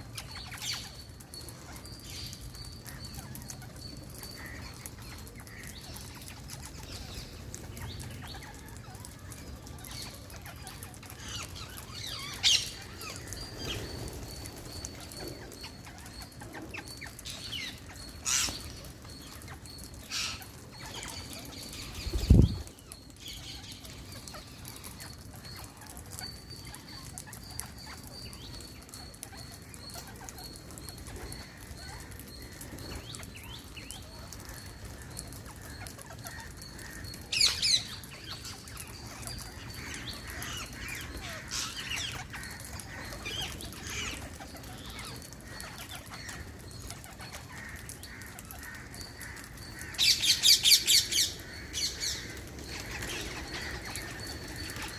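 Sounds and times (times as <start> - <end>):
parrots calling: 0.1 - 54.9.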